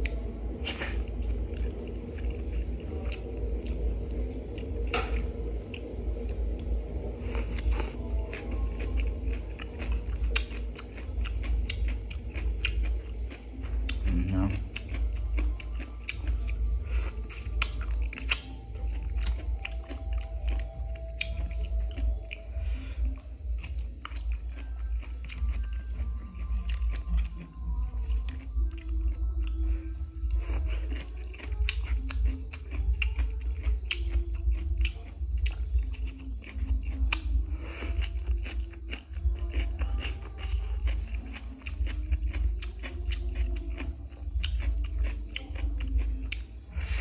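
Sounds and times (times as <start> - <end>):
crunchy chewing: 0.0 - 47.0
low hum: 0.0 - 47.0
low rumble: 0.0 - 47.0.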